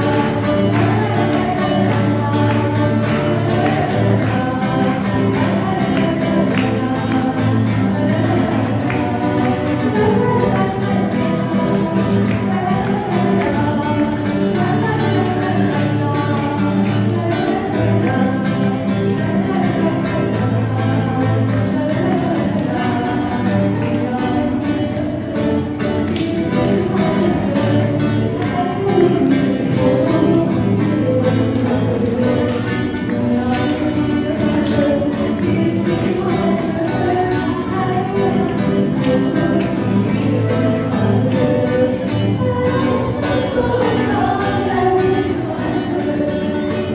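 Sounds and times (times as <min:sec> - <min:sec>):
song with singing voice: 0:00.0 - 0:46.9.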